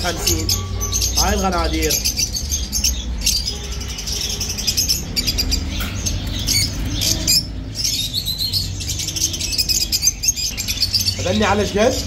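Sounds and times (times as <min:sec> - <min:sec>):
caged birds chirping and squawking: 0:00.0 - 0:12.0.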